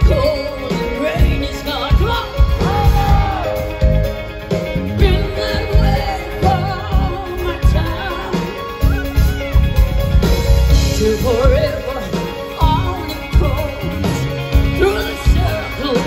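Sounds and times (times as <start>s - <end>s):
woman singing: 0.0s - 4.0s, 4.8s - 9.3s, 10.8s - 16.0s
live rock band playing: 0.0s - 16.0s.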